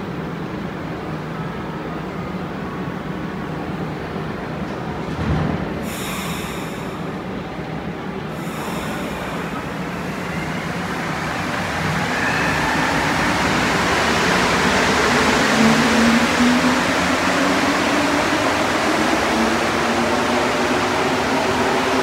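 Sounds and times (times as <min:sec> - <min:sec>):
metro train approaching: 0:00.0 - 0:22.0.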